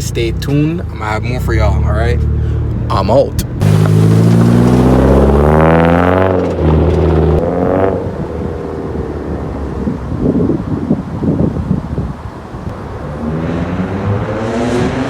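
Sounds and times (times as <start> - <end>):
car engine revving: 0.0 - 11.6, 12.2 - 15.0.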